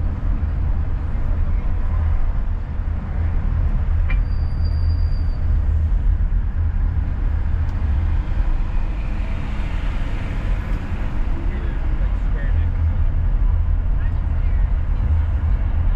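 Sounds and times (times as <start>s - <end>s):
car road and engine rumble: 0.0s - 15.9s.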